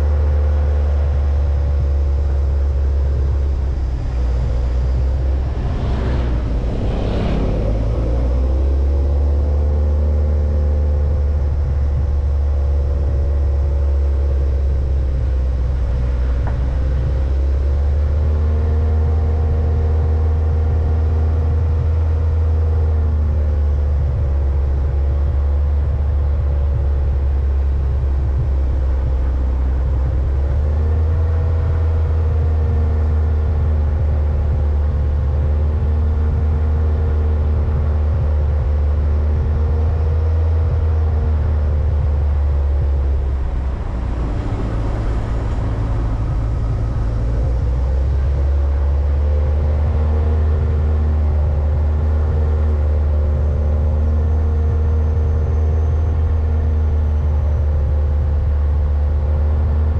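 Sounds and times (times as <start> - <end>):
road noise rumble: 0.0 - 59.9
vehicle engine running: 0.0 - 59.9.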